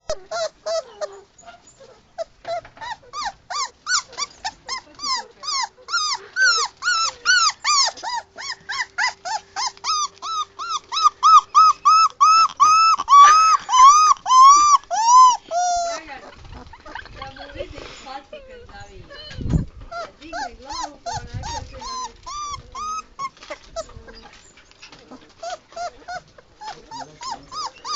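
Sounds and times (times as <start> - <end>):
puppy whimpering yelps: 0.0 - 17.3, 19.3 - 27.9.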